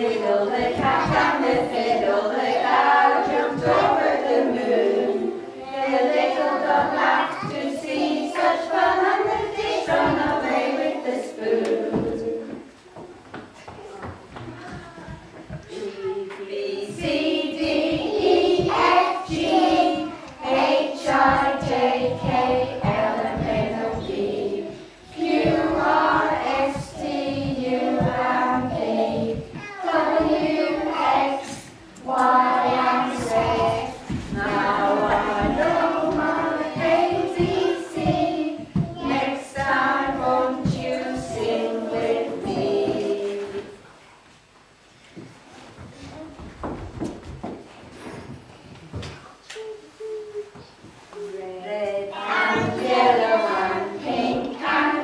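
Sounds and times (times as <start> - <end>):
young children singing: 0.0 - 13.2, 13.8 - 43.9, 52.0 - 55.0.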